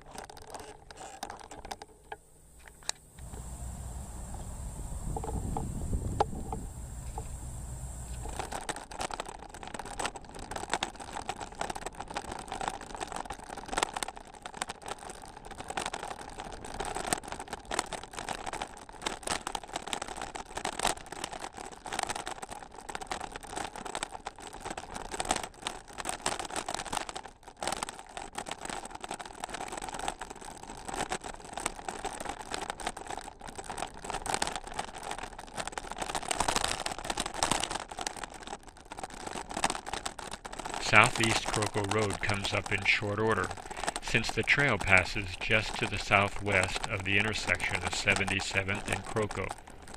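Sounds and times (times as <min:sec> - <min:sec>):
wheels crunching over gravel: 0:00.0 - 0:49.9.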